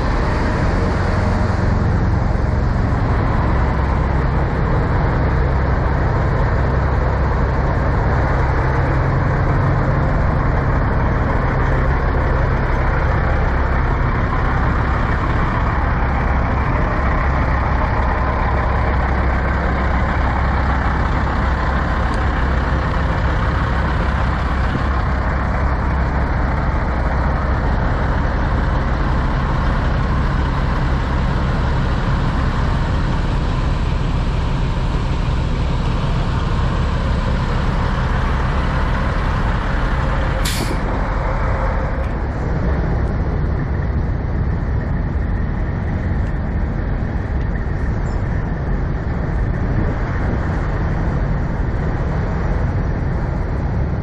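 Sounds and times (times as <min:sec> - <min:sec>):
diesel truck engines idling: 0:00.0 - 0:54.0.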